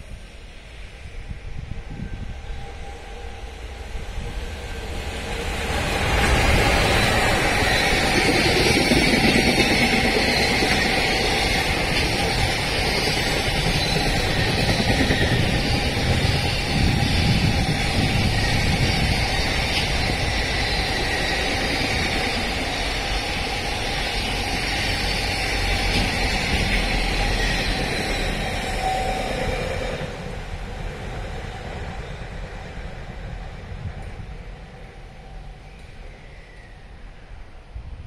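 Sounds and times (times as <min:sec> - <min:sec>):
freight train wheels rumbling: 0:00.0 - 0:38.0.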